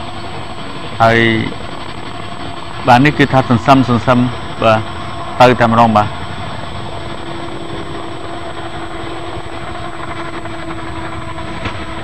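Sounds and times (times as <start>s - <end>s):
helicopter crash: 0.0s - 12.0s
helicopter whine and rotor noise: 0.0s - 12.0s.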